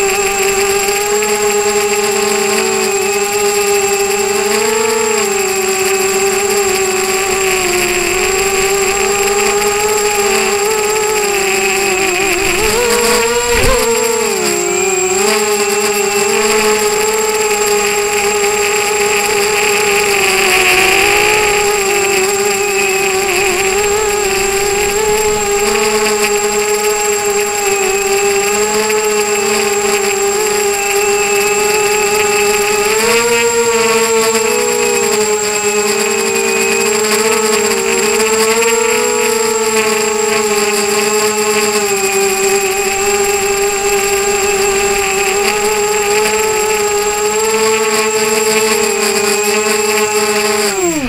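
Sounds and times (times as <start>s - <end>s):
drone motors and propellers whining: 0.0s - 51.0s.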